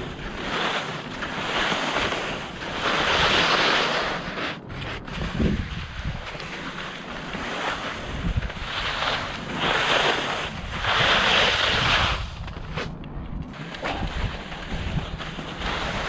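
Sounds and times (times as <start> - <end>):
ski swishes: 0.0 - 12.9, 13.5 - 16.0
skis scraping on slushy snow: 0.0 - 12.9, 13.5 - 16.0
wind rumbling on microphone: 0.0 - 16.0.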